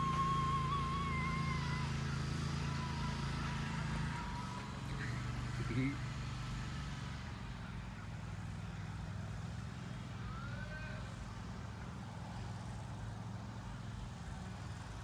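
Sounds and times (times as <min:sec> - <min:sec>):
lawn mower engine droning: 0:00.0 - 0:15.0.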